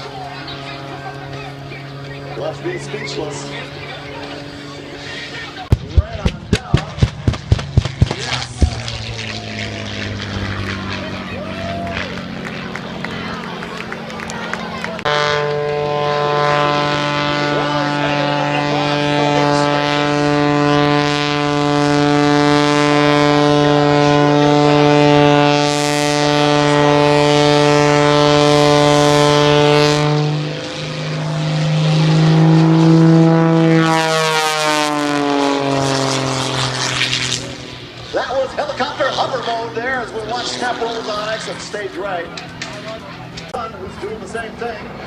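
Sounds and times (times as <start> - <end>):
propeller airplane engine droning: 0.0 - 45.0.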